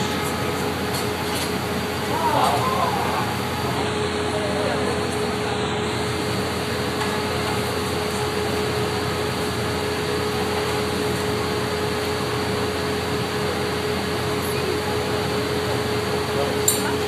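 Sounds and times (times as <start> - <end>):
furnace blower rushing: 0.0 - 17.0
mid-pitched hum: 0.0 - 17.0.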